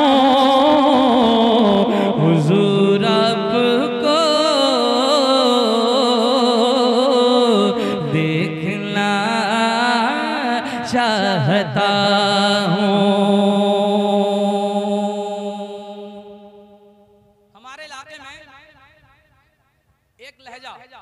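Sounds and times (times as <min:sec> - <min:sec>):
man singing into a microphone: 0:00.0 - 0:16.8, 0:17.6 - 0:19.2.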